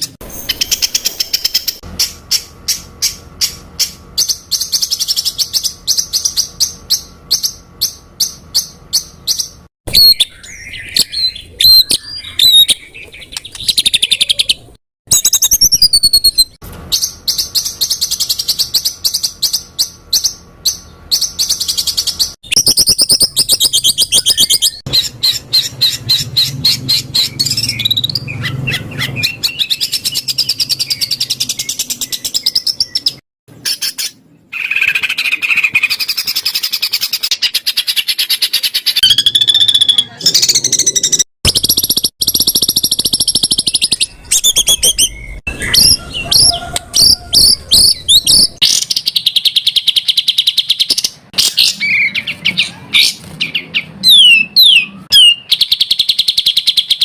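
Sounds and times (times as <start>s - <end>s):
songbird song with sharp repeated notes: 0.0s - 57.0s.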